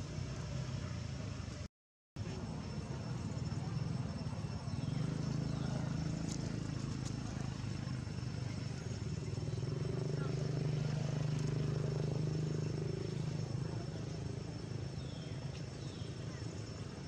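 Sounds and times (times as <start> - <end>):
low motor hum: 2.2 - 17.0.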